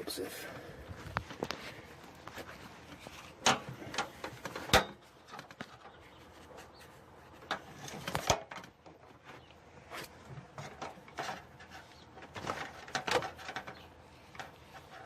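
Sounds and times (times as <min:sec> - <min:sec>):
hands handling hard objects: 0:00.8 - 0:15.0.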